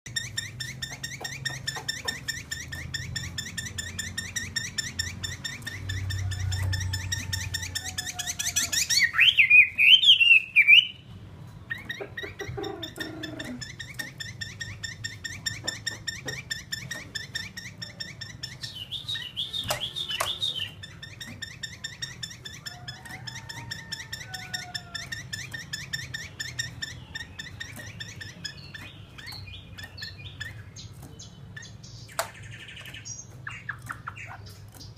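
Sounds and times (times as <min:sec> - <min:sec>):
bird chattering song: 0:00.1 - 0:34.9.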